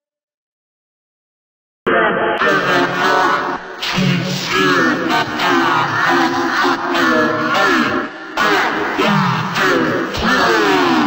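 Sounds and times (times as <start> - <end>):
wordless vocal line: 1.9 - 11.0.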